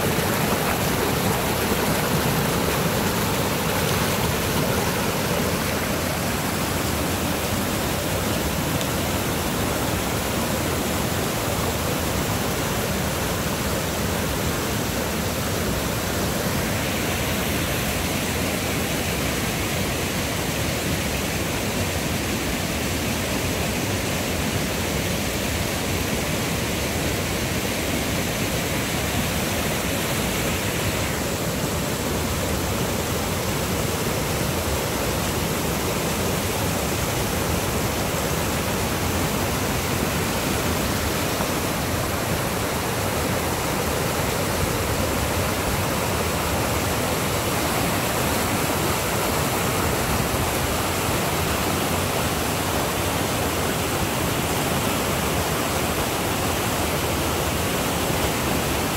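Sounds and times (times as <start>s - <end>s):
creek rushing through rapids: 0.0s - 58.9s.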